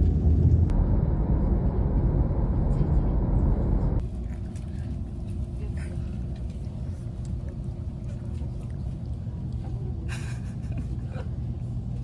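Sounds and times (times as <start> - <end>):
road vehicle rumble: 0.0 - 12.0.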